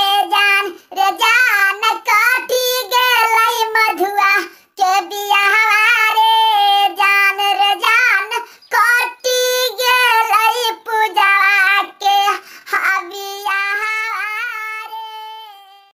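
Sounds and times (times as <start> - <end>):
high-pitched cartoon voice singing: 0.0 - 16.0.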